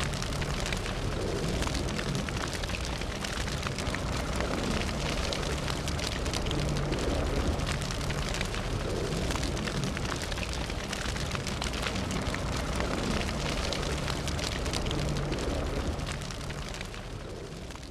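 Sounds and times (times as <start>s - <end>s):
fire crackling and popping: 0.0s - 17.9s.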